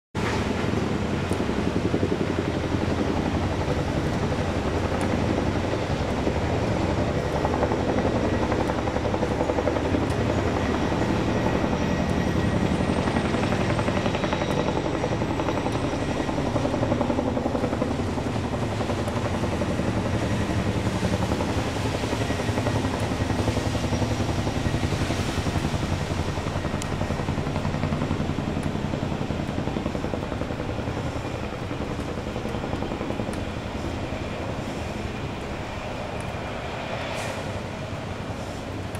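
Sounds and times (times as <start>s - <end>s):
helicopter rotors beating: 0.2s - 38.9s.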